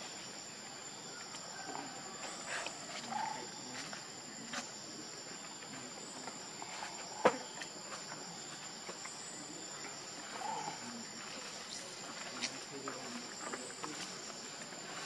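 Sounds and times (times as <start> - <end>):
insect chorus shrilling: 0.0 - 15.0.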